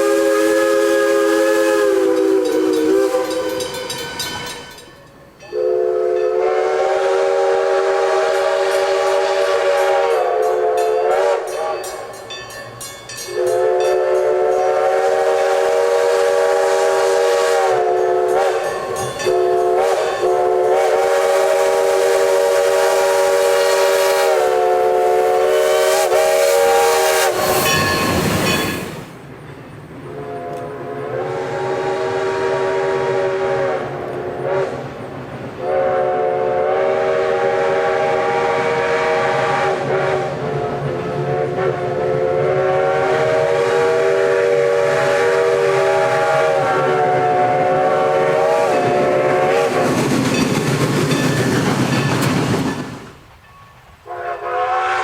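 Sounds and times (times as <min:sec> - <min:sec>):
steam whistle blasts: 0:00.0 - 0:04.9, 0:05.5 - 0:12.1, 0:13.4 - 0:29.1, 0:30.1 - 0:34.9, 0:35.6 - 0:50.0, 0:54.0 - 0:55.0
steam whistle chord: 0:00.0 - 0:12.2, 0:13.3 - 0:29.1, 0:30.1 - 0:34.8, 0:35.6 - 0:49.8, 0:54.0 - 0:55.0
rush of steam: 0:00.0 - 0:55.0.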